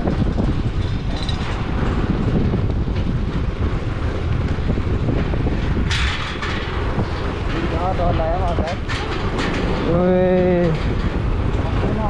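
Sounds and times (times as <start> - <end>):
scooter riding rumble: 0.0 - 12.0
wind buffeting microphone: 0.0 - 12.0.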